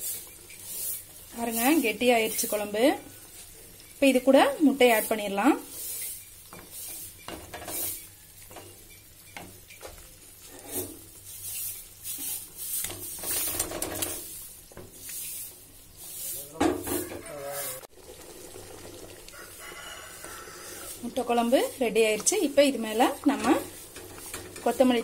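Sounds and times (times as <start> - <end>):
ladle scraping pot: 0.0 - 17.9, 19.2 - 25.0
curry simmering: 0.0 - 25.0.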